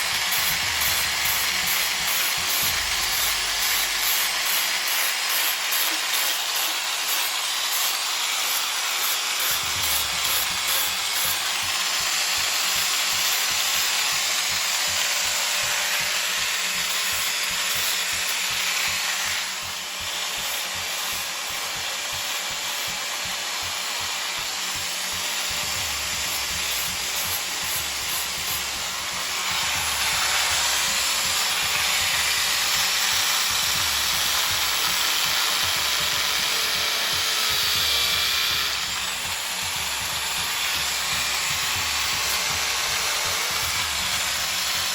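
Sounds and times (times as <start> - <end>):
power sander on wood: 0.0 - 44.9.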